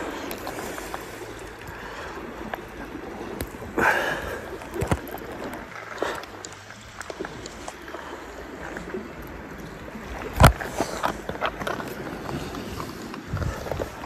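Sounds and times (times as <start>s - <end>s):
sea washing against rocks: 0.0s - 14.0s.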